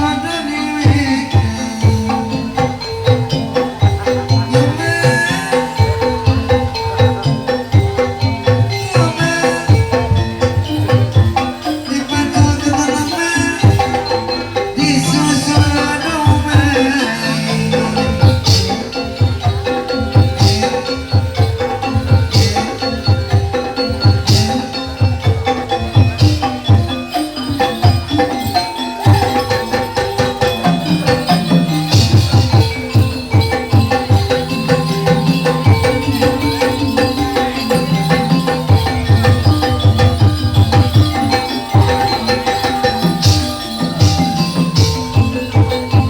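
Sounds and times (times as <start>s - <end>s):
fast rhythmic drumming: 0.0s - 46.0s
ringing metallophone tones: 0.0s - 46.0s.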